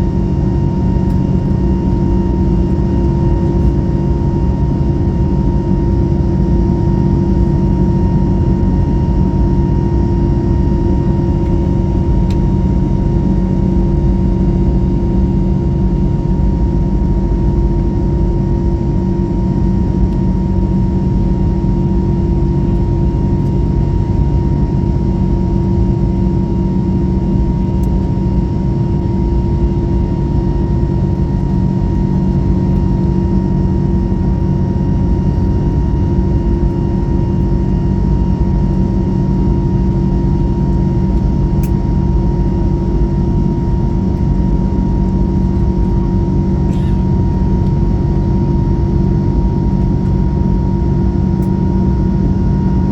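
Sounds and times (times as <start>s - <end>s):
engine and air-conditioning hum: 0.0s - 52.9s.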